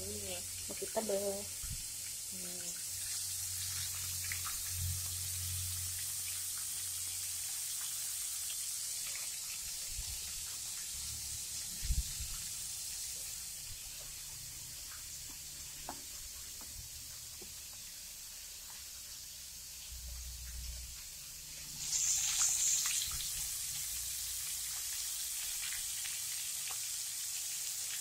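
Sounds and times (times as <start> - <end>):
shrimp sizzling in hot oil: 0.0 - 28.0.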